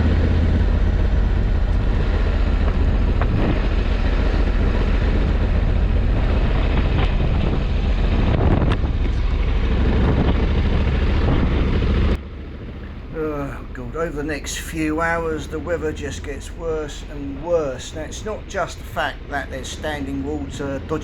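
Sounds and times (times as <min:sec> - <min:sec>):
motorcycle engine rumble: 0:00.0 - 0:21.0
wet road noise: 0:00.0 - 0:21.0
wind rushing over microphone: 0:00.0 - 0:21.0.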